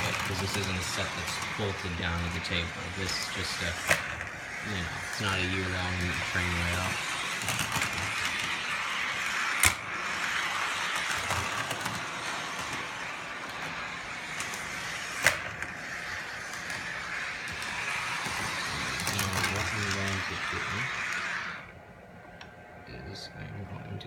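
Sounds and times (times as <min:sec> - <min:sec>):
toy trolley whirring on track: 0:00.0 - 0:21.8.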